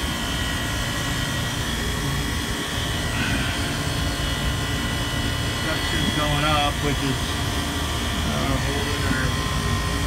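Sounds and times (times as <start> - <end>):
refrigeration unit humming: 0.0 - 10.0.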